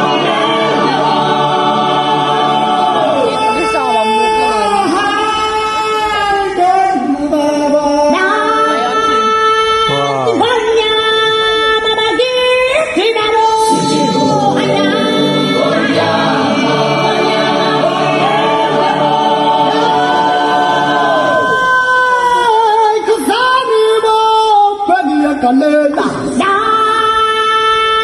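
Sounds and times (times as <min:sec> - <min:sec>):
unaccompanied singing voices: 0:00.0 - 0:28.0.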